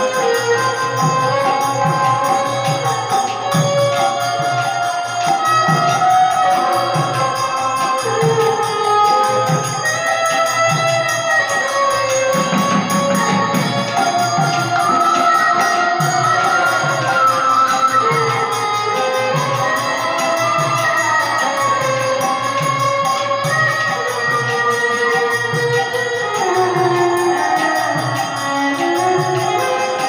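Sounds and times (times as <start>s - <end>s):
violin folk melody: 0.0s - 30.0s.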